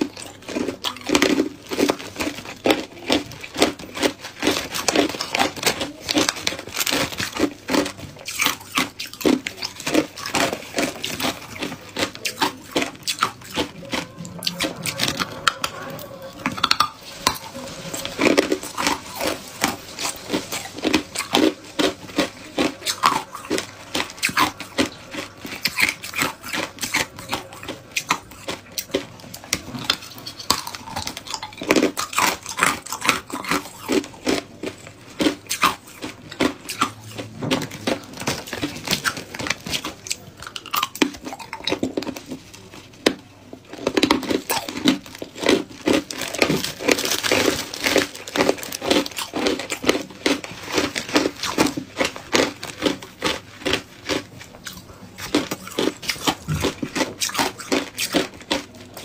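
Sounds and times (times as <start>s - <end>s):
ice crunching between teeth: 0.0s - 59.0s.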